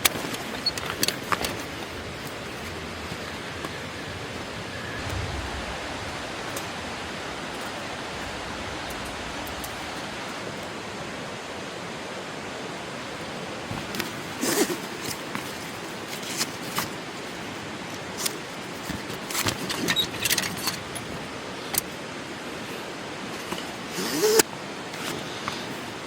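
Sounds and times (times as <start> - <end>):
background hiss: 0.2 - 26.0.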